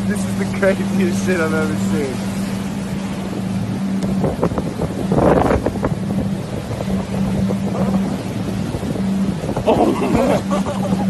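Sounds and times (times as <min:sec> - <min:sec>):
low engine hum: 0:00.0 - 0:11.0
wind buffeting microphone: 0:00.0 - 0:11.0.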